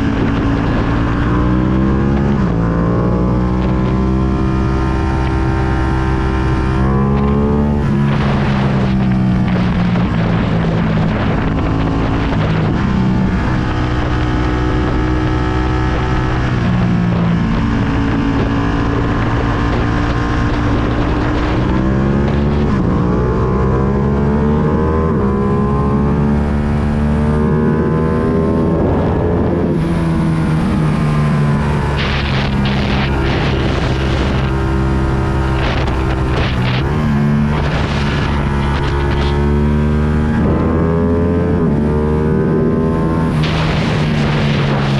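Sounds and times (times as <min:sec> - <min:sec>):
motorcycle engine revving: 0:00.0 - 0:44.9
wind buffeting microphone: 0:00.0 - 0:44.9.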